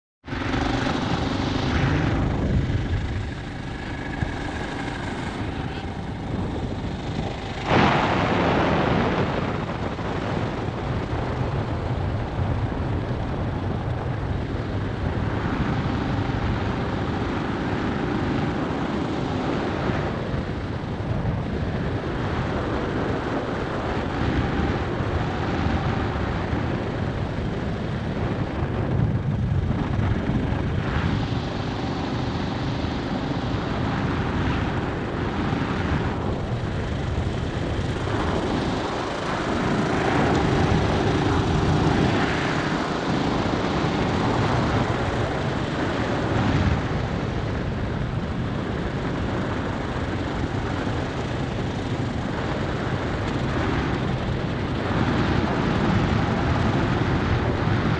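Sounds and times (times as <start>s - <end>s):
motorcycle engine running: 0.2s - 57.9s
wind rushing over microphone: 0.2s - 57.9s.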